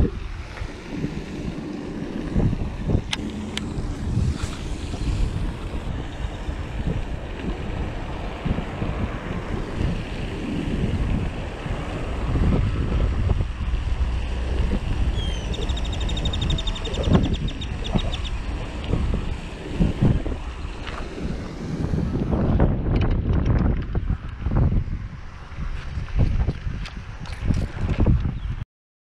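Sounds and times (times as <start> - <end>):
wind buffeting microphone: 0.0 - 28.6.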